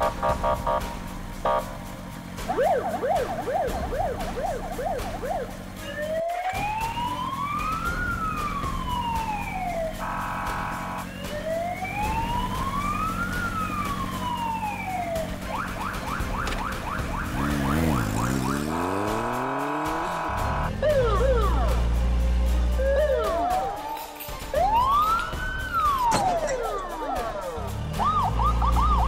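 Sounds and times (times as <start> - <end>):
police siren wailing: 0.0 - 1.8, 2.4 - 22.0, 22.8 - 29.0.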